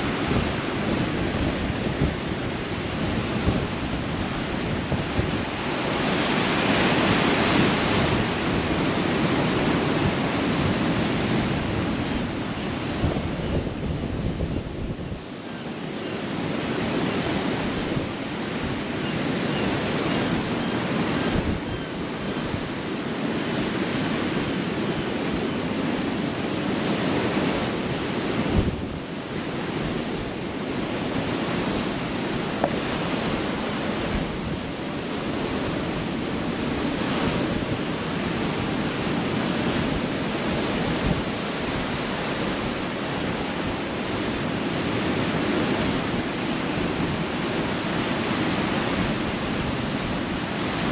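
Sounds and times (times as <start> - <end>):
ocean surf roar: 0.0 - 50.9
wind buffeting microphone: 0.0 - 50.9.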